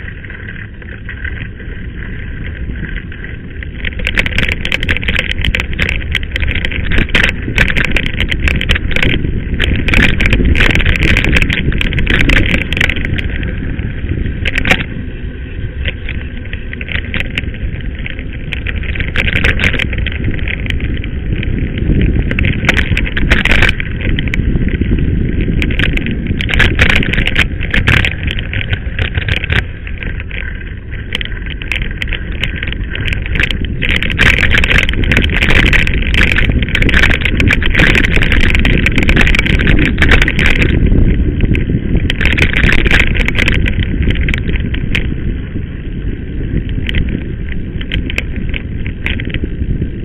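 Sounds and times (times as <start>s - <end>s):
bike rattling over bumps: 0.0s - 50.0s
tyres rumbling on gravel: 0.0s - 50.0s
wind: 0.0s - 50.0s.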